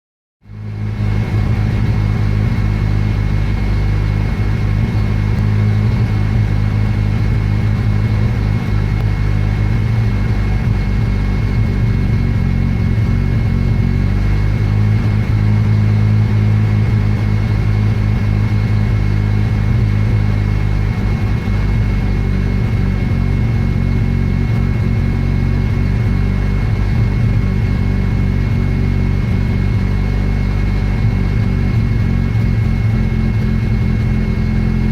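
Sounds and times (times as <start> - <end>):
rotary engine running unevenly: 0.4 - 34.9.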